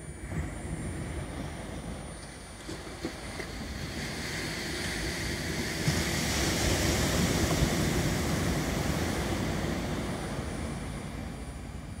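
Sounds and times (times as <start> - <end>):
wind rumbling on microphone: 0.0 - 12.0
waves breaking on a beach: 0.2 - 12.0.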